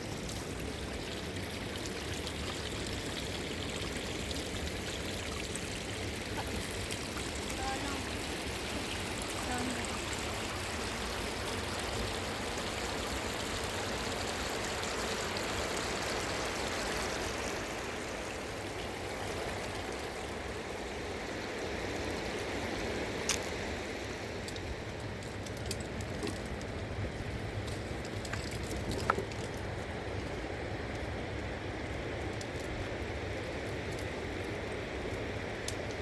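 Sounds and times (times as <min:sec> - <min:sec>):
mountain river rushing: 0:00.0 - 0:36.0.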